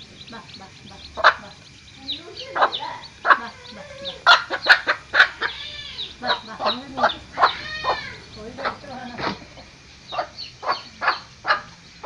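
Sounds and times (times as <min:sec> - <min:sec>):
chicks cheeping: 0:00.0 - 0:12.0
hen clucking: 0:00.0 - 0:12.0.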